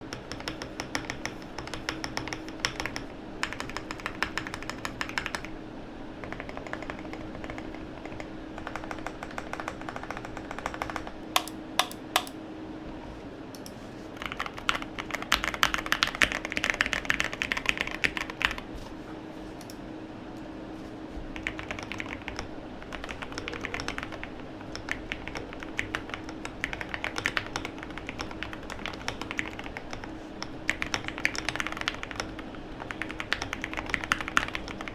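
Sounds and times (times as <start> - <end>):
mechanical keyboard typing: 0.1 - 5.5, 6.2 - 12.4, 14.2 - 18.6, 21.4 - 34.9.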